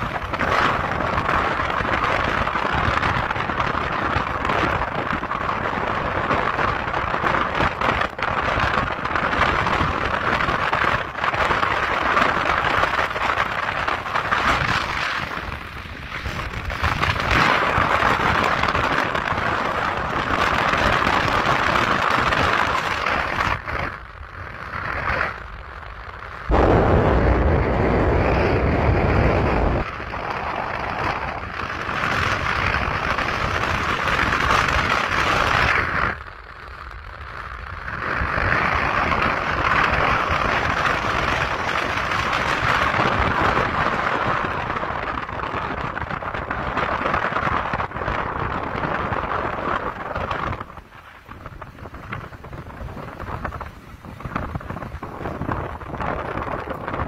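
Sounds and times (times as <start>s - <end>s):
wind rushing: 0.0s - 36.3s, 37.6s - 57.0s
deep wind buffeting rumble: 0.0s - 57.0s
road noise: 0.0s - 57.0s.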